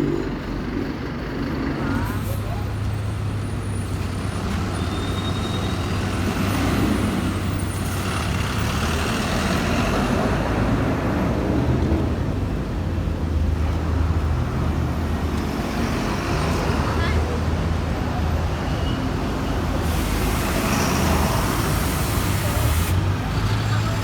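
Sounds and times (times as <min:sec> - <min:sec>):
bus engine hum: 0:00.0 - 0:24.0
road noise of passing vehicles: 0:00.0 - 0:24.0.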